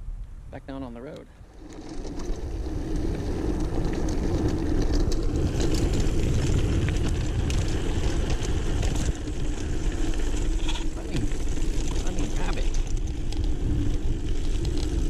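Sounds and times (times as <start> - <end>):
wind buffeting microphone: 0.0 - 15.0
bike clicks and rattles: 1.1 - 15.0
tyre noise on dirt: 1.3 - 15.0.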